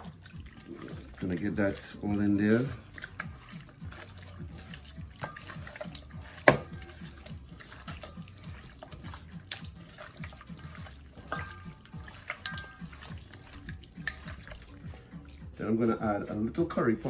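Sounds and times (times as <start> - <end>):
wet squelches of raw chicken: 0.0 - 15.6.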